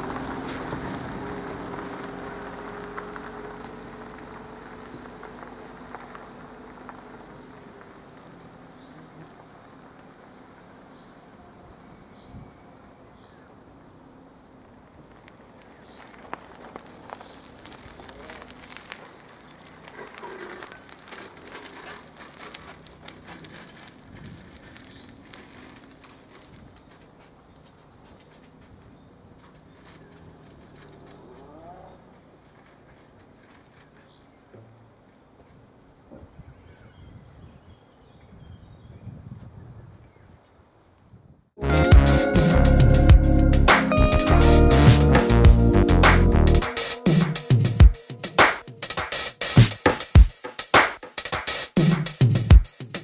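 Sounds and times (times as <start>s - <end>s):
car engine and tyre noise: 0.0s - 38.4s, 39.1s - 51.0s.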